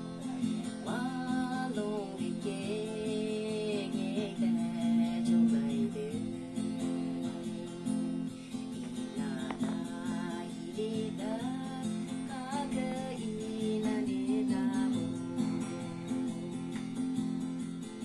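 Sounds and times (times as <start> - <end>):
woman singing: 0.0 - 17.8
acoustic guitar strumming: 0.0 - 18.0.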